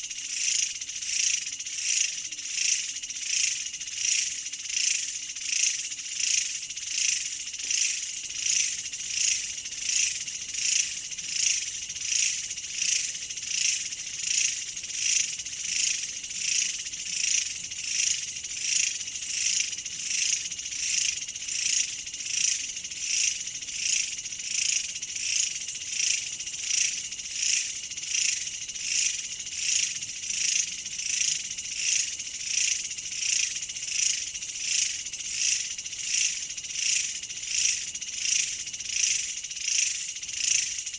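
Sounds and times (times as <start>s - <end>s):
insects buzzing trill: 0.0s - 40.9s.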